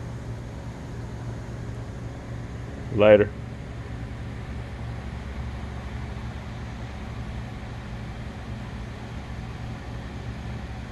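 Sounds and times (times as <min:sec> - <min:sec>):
steady background hum and hiss: 0:00.0 - 0:10.9.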